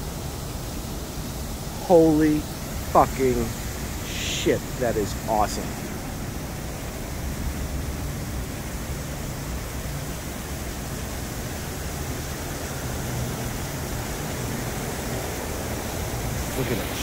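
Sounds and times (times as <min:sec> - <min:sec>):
fountain water rushing: 0:00.0 - 0:17.0.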